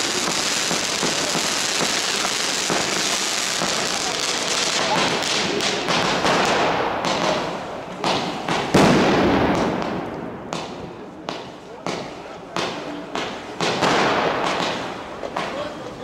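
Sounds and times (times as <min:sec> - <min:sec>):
firecracker bangs: 0:00.0 - 0:15.8
crackling hiss of fireworks: 0:00.0 - 0:16.0.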